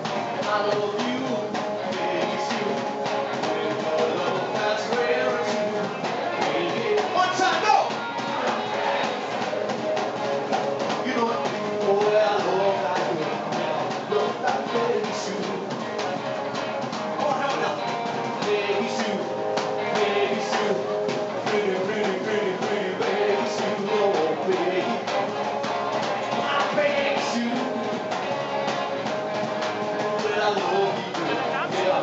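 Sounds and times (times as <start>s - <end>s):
rock and roll band playing: 0.0s - 32.0s.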